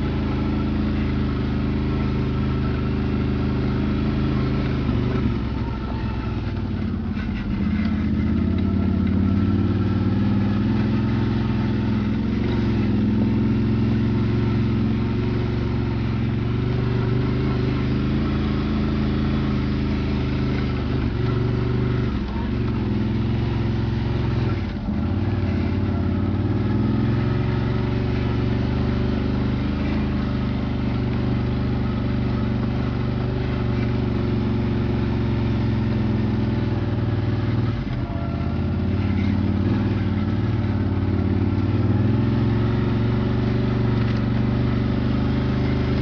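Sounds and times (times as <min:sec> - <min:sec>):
quad bike engine running: 0:00.0 - 0:46.0.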